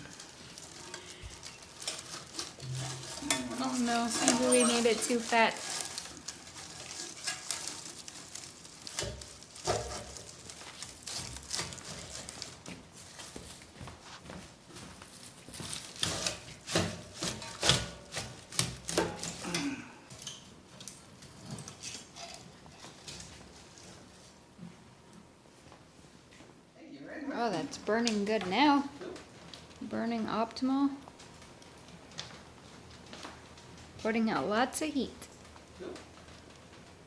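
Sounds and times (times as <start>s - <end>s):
twigs rustling and scraping: 0.0s - 24.4s, 27.4s - 37.0s
brush crackling in wood stove: 0.0s - 37.0s.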